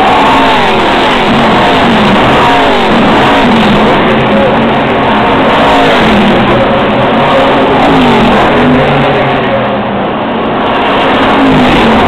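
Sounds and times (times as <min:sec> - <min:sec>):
race cars passing at speed: 0:00.0 - 0:12.0.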